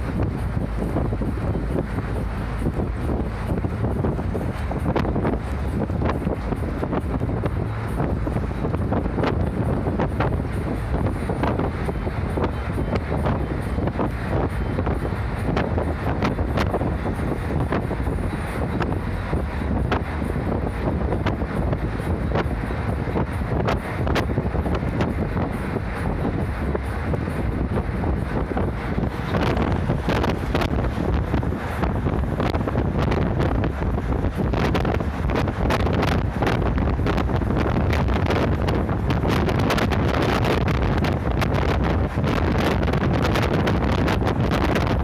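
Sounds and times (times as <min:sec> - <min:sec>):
bus engine rumbling: 0:00.0 - 0:45.0
wind buffeting microphone: 0:00.0 - 0:45.0.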